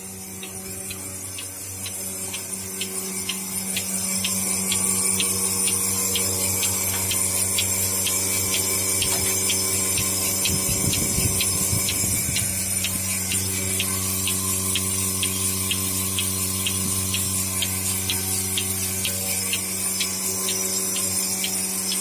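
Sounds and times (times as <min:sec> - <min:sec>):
pulsator ticking: 0:00.0 - 0:22.0
vacuum pump humming: 0:00.0 - 0:22.0.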